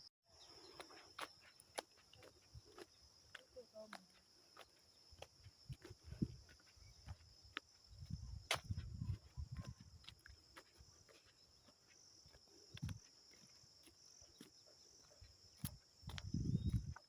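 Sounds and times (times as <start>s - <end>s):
high insect drone: 0.3s - 17.0s
soft footsteps on ground: 0.3s - 17.0s.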